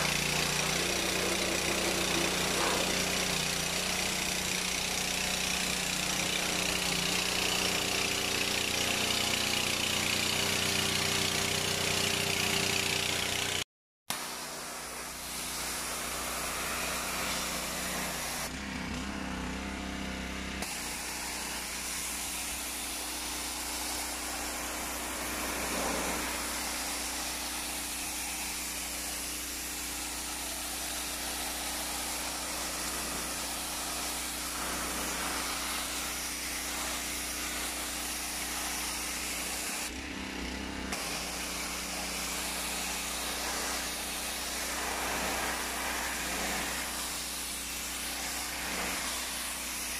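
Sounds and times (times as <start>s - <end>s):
small petrol engine running: 0.0s - 13.6s, 14.6s - 49.8s
water jet hissing on concrete: 0.0s - 18.5s, 20.6s - 49.9s.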